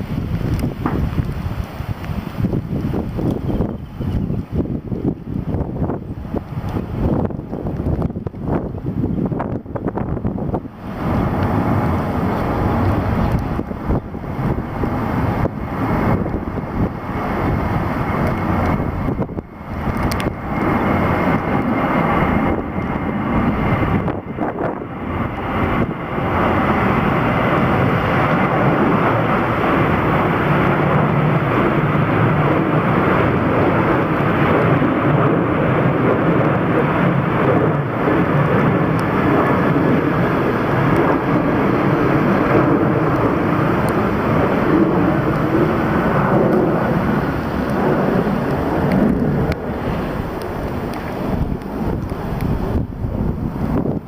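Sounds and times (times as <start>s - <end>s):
jet engines running: 0.0s - 54.0s
wind buffeting microphone: 0.0s - 54.0s.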